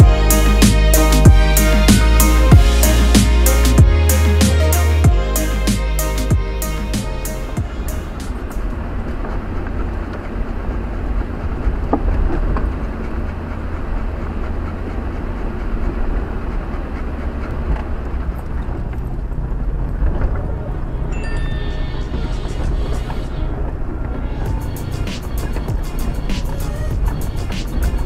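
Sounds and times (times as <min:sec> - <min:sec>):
engine and drivetrain rumble: 0:00.0 - 0:28.0
tyres on rough trail: 0:00.0 - 0:28.0.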